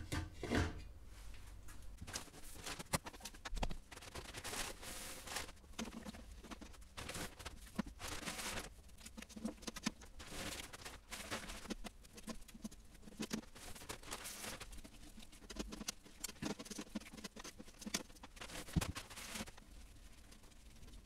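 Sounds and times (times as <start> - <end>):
plastic bag rustling: 1.2 - 20.8.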